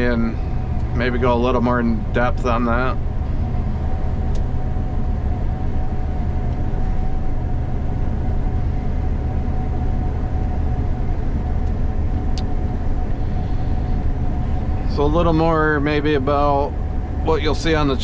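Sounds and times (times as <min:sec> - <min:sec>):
combine harvester rumbling: 0:00.0 - 0:18.0
steady machine whine: 0:00.0 - 0:18.0.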